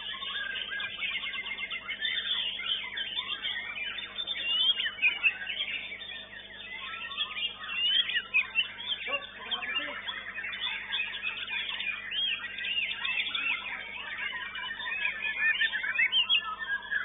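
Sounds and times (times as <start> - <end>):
faint steady hum: 0.0 - 17.0
songbirds singing: 0.0 - 17.0.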